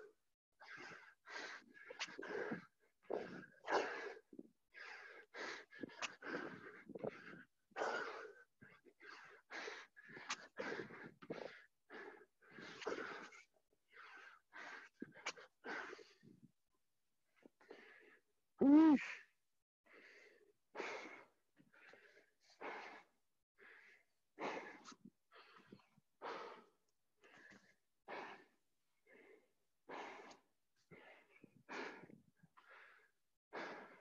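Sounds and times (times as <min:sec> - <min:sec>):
man breathing hard and fast: 0:00.6 - 0:16.6, 0:17.2 - 0:18.3, 0:19.2 - 0:34.0.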